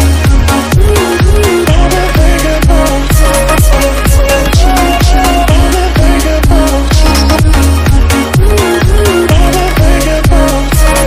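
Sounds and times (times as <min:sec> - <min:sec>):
electronic dance music: 0:00.0 - 0:11.0
steady kick drum: 0:00.0 - 0:11.0.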